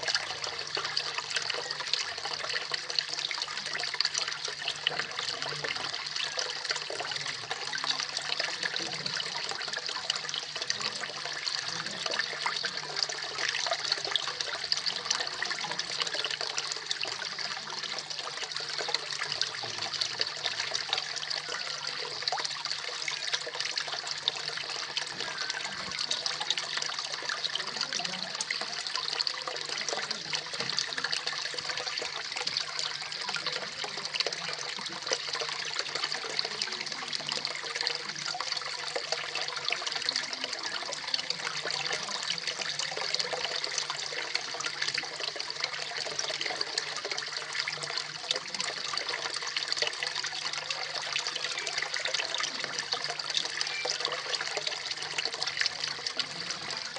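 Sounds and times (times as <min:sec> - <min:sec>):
waterfall splashing into pond: 0:00.0 - 0:56.9.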